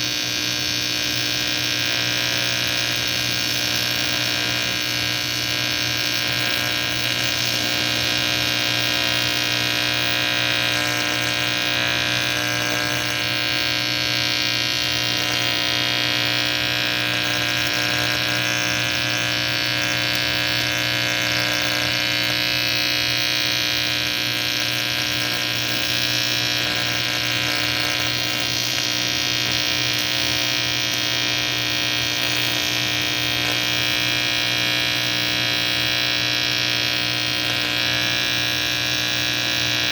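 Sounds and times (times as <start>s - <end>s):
welding arc buzzing: 0.0s - 39.9s.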